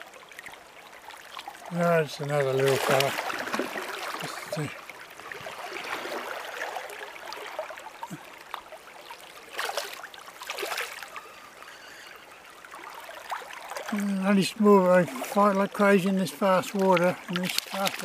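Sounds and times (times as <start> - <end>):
river water gurgling over stones: 0.0 - 18.0
water splashes: 0.0 - 18.0.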